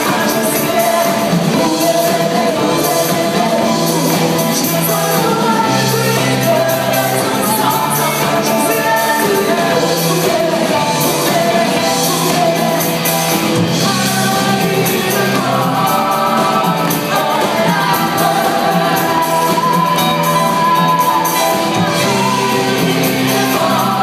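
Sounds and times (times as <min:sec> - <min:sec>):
live rock band playing: 0:00.0 - 0:24.0
woman singing lead: 0:00.0 - 0:24.0.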